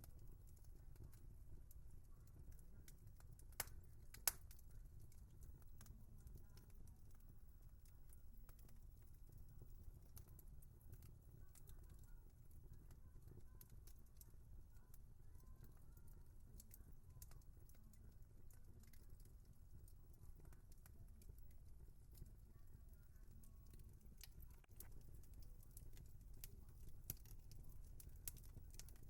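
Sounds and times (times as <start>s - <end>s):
low rumble of burning fire: 0.0s - 29.0s
wood fire crackling: 0.0s - 29.0s.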